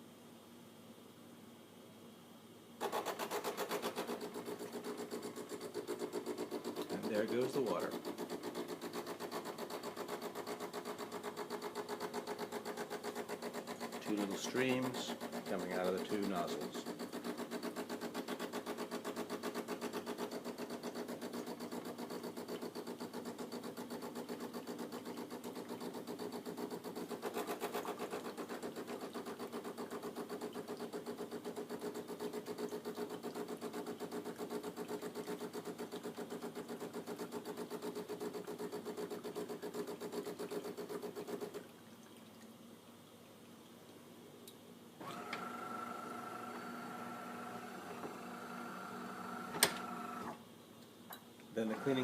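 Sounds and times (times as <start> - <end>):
espresso machine pump buzzing: 2.8 - 41.6, 45.0 - 50.4, 51.6 - 52.0.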